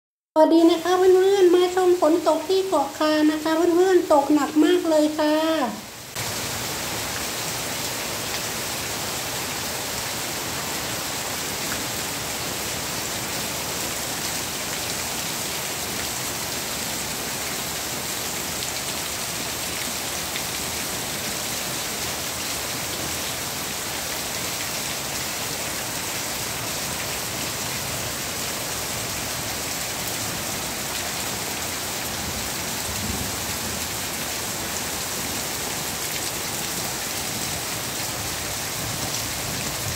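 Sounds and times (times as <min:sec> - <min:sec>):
heavy rain on leaves: 0:03.5 - 0:39.9.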